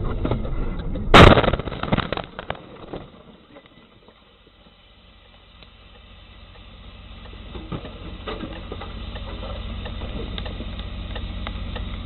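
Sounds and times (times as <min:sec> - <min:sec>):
engine pulsing rumble: 0:00.0 - 0:12.0.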